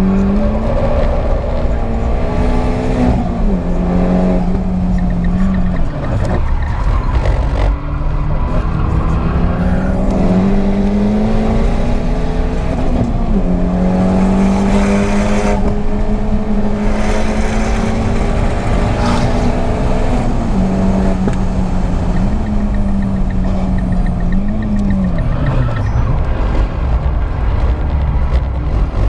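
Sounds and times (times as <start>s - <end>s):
turbocharged car engine accelerating: 0.0s - 29.0s.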